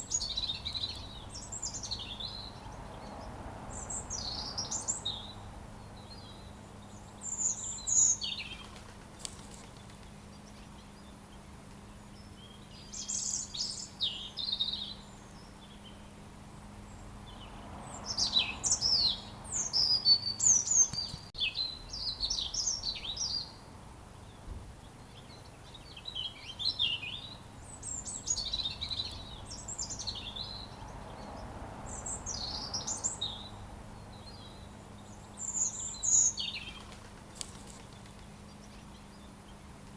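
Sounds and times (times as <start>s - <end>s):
robin singing: 0.0s - 8.8s, 9.5s - 39.8s
faint background hum: 0.0s - 39.9s.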